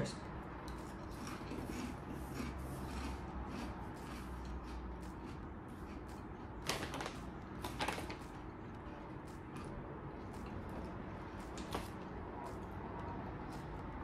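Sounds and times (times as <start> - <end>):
faint crunchy chewing: 0.6 - 14.0.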